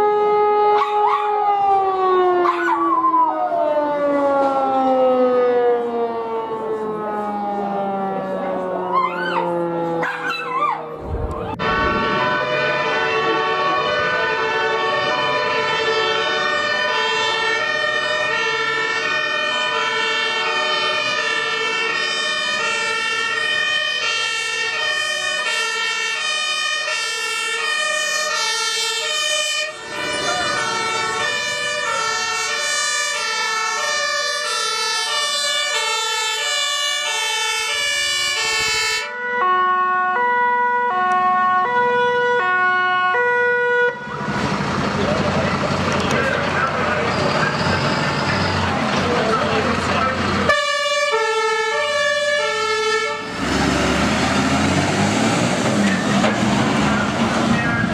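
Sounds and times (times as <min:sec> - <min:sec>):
two-tone emergency sirens: 0:00.0 - 0:57.9.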